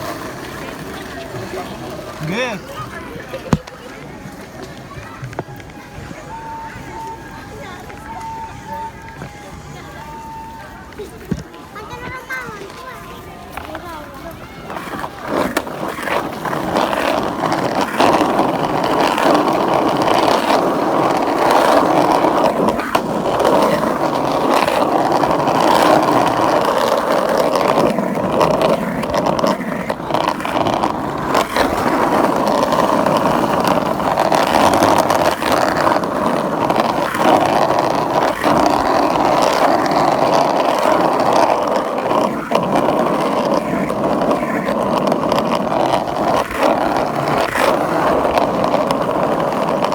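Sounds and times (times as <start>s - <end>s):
skateboard wheels rolling on pavement: 0.0s - 49.9s.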